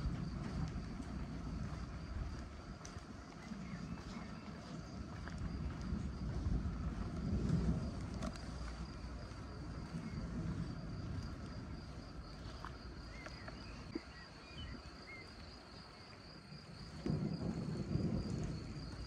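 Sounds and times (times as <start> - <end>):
low outdoor rumble: 0.0 - 19.0
pulsing insect trill: 0.0 - 19.0.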